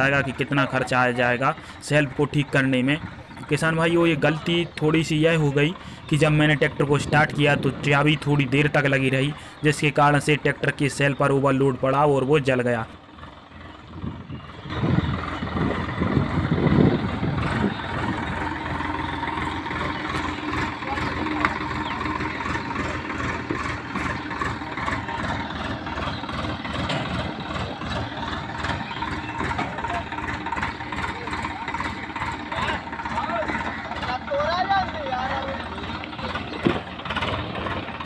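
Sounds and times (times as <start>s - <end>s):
diesel tractor engine chugging: 0.0s - 38.0s.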